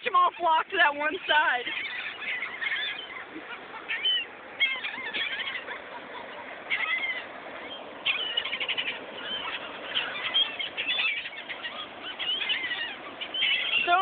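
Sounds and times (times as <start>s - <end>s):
seagulls squealing: 0.0s - 14.0s.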